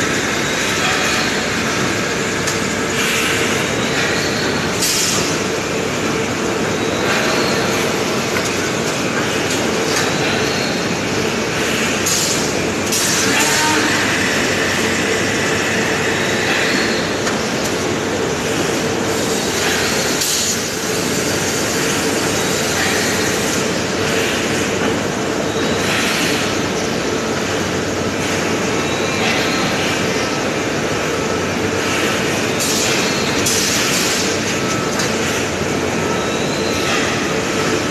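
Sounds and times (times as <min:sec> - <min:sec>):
constant machine hum: 0:00.0 - 0:37.9
machinery running: 0:00.0 - 0:37.9.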